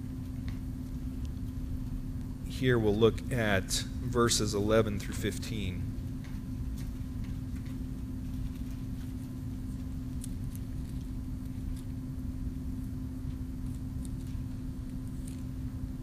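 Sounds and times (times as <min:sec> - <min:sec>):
low room rumble and hum: 0:00.0 - 0:16.0.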